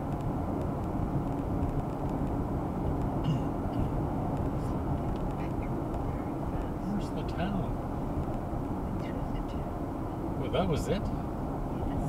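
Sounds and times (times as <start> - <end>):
car road noise inside cabin: 0.0 - 12.0.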